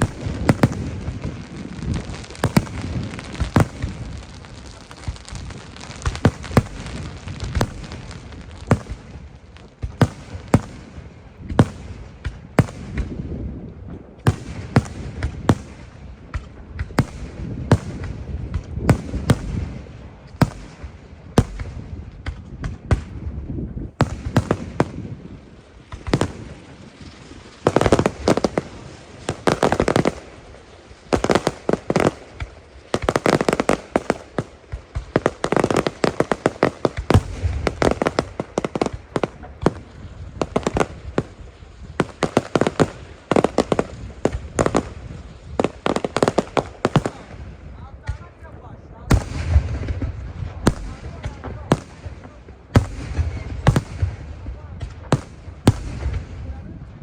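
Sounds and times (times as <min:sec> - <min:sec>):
rapid firework crackling: 0:00.0 - 0:57.0.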